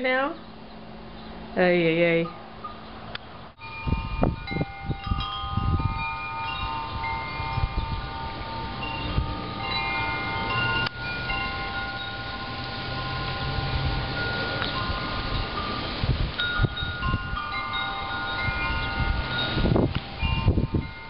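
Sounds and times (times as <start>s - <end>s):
wind chimes ringing: 2.1s - 21.0s
wind rumble on microphone: 3.6s - 21.0s.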